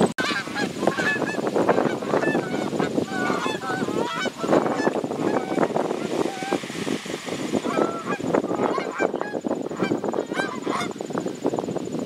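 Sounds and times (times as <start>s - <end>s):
geese honking: 0.2s - 6.6s, 7.5s - 11.0s.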